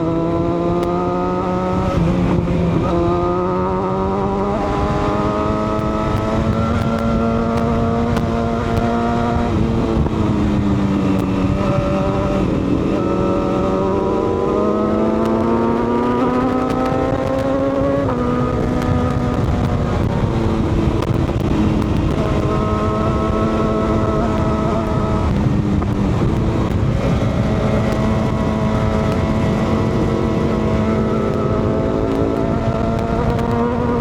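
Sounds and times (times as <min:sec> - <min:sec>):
motorcycle engine: 0:00.0 - 0:34.0
wind and road noise: 0:00.0 - 0:34.0.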